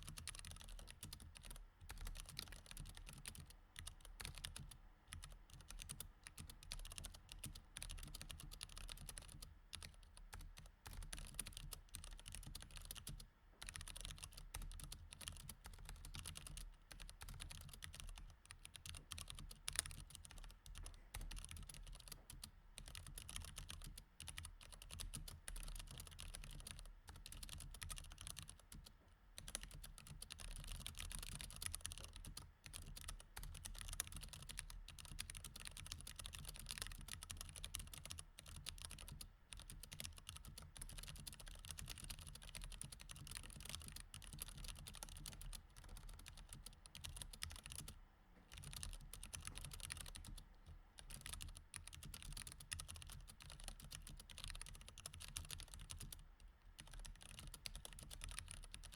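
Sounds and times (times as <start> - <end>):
mechanical keyboard typing: 0.0 - 50.4, 51.0 - 56.2, 56.8 - 58.9.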